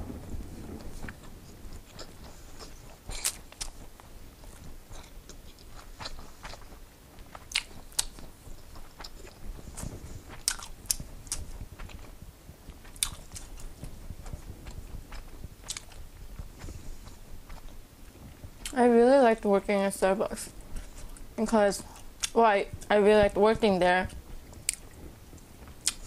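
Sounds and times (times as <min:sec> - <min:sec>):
chewing food: 0:00.7 - 0:18.8, 0:20.4 - 0:22.9, 0:24.1 - 0:26.0.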